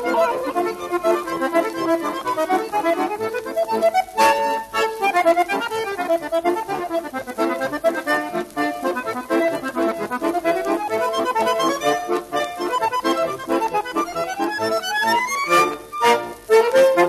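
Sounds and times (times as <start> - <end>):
instrumental music with quick notes: 0.0 - 17.0.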